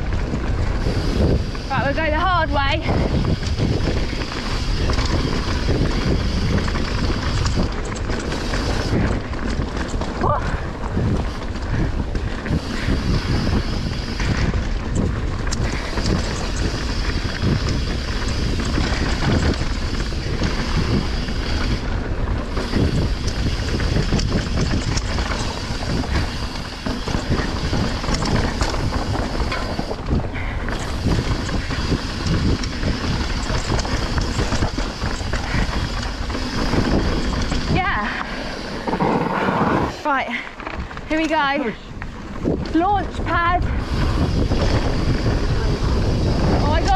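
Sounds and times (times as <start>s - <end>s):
bike clicks and rattles: 0.0s - 46.9s
tyres rushing on dirt: 0.0s - 46.9s
wind buffeting microphone: 0.0s - 46.9s.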